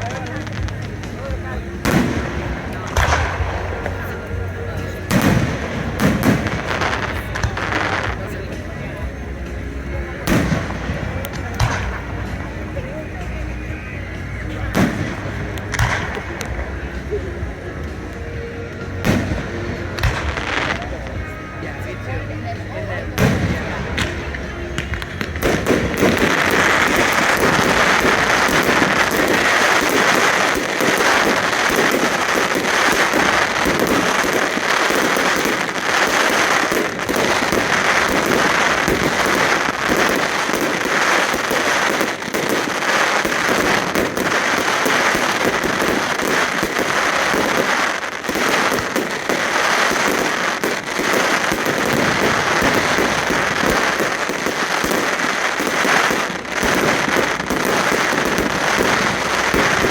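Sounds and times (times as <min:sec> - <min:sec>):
fireworks crackling barrage: 0:00.0 - 0:59.9.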